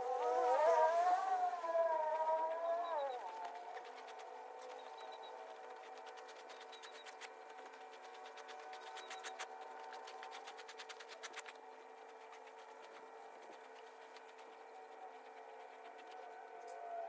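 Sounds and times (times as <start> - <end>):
faint machine hum: 0.0 - 17.0.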